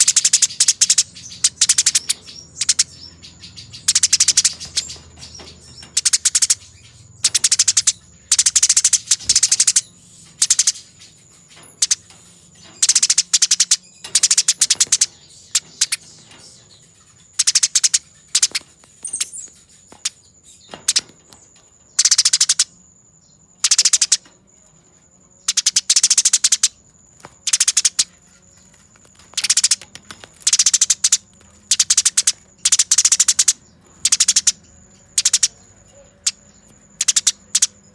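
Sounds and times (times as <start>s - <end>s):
sparrows chattering trills: 0.0s - 37.9s.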